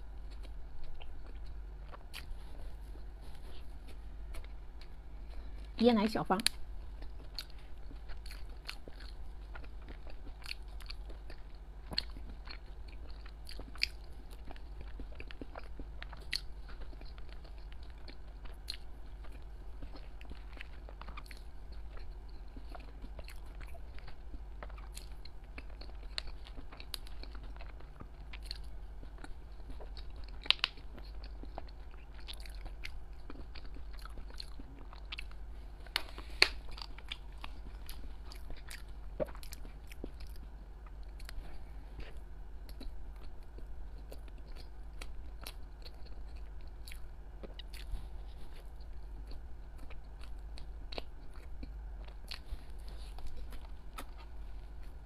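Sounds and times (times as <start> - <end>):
person chewing: 0.1 - 5.8, 6.4 - 55.0.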